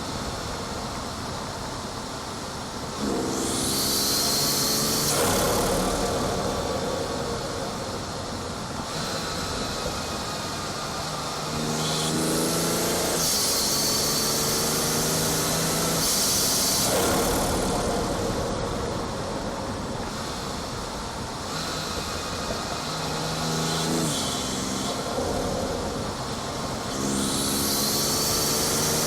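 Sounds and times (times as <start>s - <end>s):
car engine accelerating: 2.9s - 29.0s
turbo intake whoosh: 3.0s - 29.0s.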